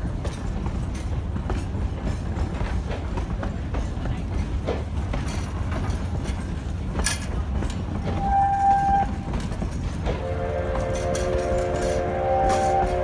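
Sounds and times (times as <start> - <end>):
rail clicks: 0.0 - 13.0
train wheels rumbling on rail: 0.0 - 13.0.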